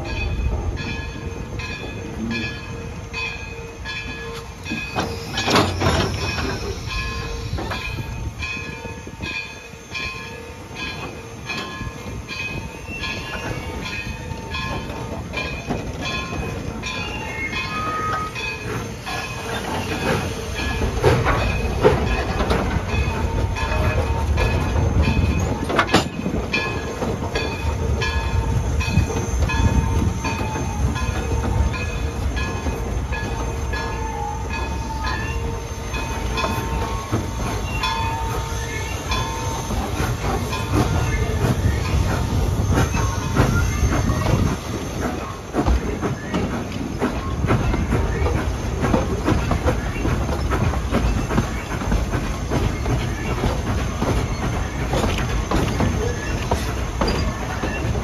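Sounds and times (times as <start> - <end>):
low train rumble: 0.0 - 58.0
train wheels clacking over rail joints: 3.9 - 9.4, 10.0 - 58.0.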